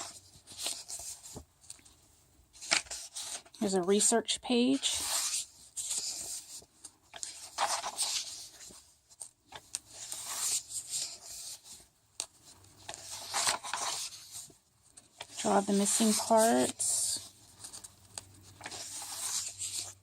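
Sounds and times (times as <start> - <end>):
paper pages turning: 0.0 - 1.9, 2.6 - 20.0.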